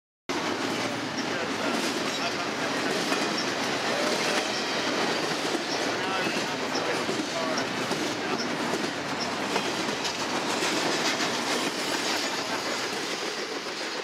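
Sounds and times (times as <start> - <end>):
container train rumbling past: 0.3 - 14.0.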